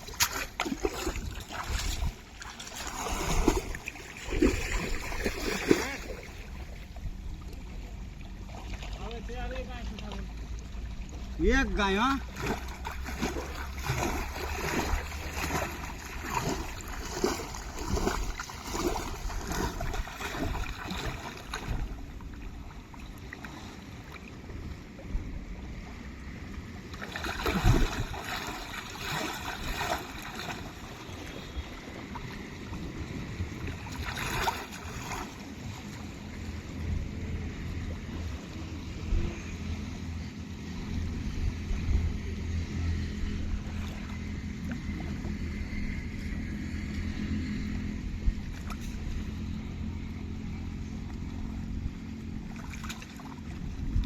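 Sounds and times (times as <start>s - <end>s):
water sloshing and splashing: 0.0s - 54.0s
wind rumble on microphone: 0.0s - 54.0s.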